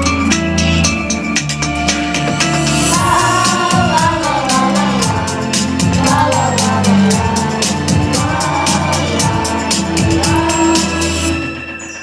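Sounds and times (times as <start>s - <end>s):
steady drum beat: 0.0s - 11.4s
held instrumental chords: 0.0s - 11.6s.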